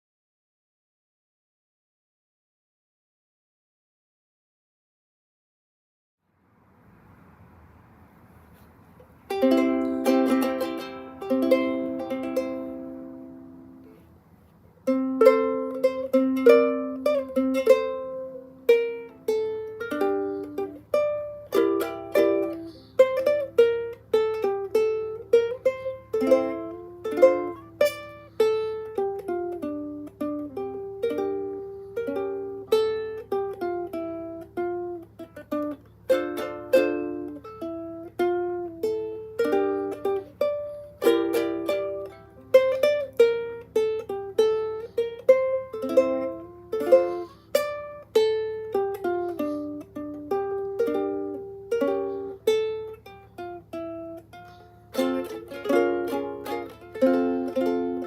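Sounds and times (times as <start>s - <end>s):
ukulele melody: 8.5s - 58.0s
ukulele chords strummed: 9.0s - 14.2s, 14.8s - 58.0s.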